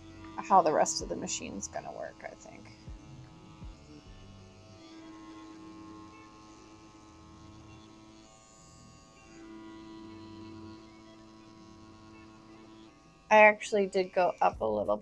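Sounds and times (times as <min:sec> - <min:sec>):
tattoo pen electric hum: 0:00.0 - 0:15.0.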